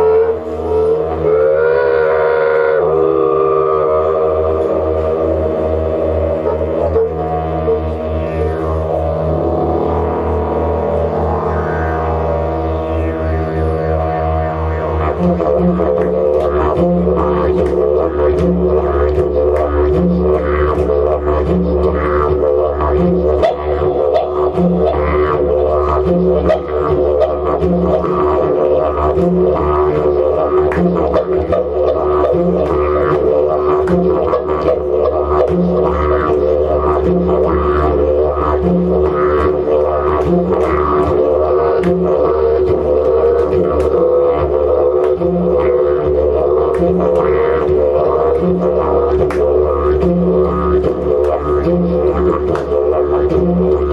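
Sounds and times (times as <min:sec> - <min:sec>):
didgeridoo drone: 0:00.0 - 0:53.9.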